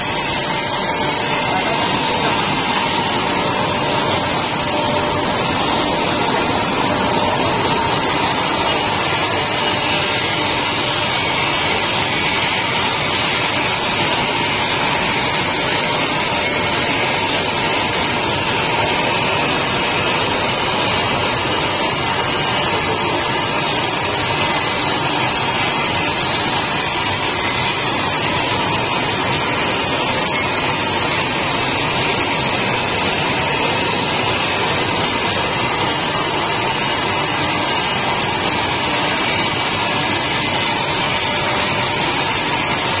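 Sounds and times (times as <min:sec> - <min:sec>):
glass polishing machine whirring: 0:00.0 - 0:43.0.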